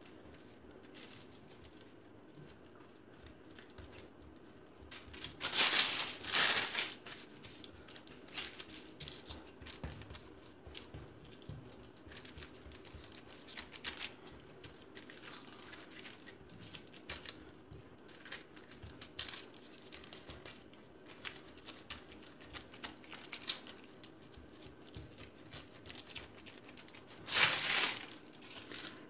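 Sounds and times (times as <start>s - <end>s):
parchment paper rustling and crinkling: 0.0s - 29.0s.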